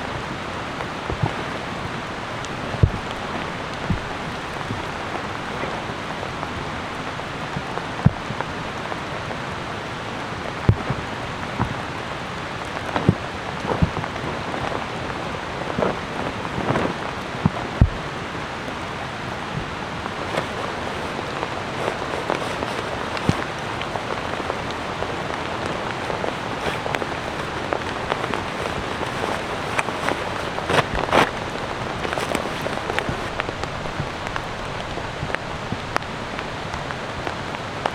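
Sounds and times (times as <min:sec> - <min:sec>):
raindrops striking close by: 0:00.0 - 0:37.9
steady rain falling: 0:00.0 - 0:37.9.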